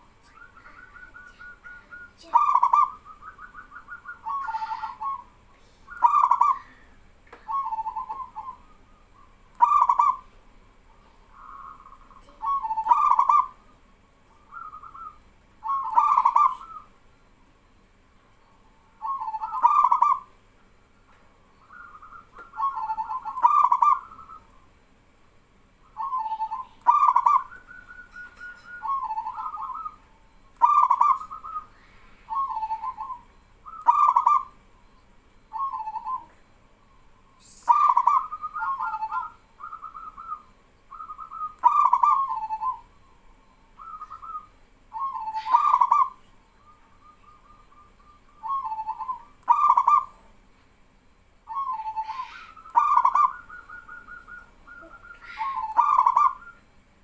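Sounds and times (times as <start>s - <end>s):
doves cooing: 0.0s - 17.0s, 18.6s - 50.5s, 51.1s - 56.8s.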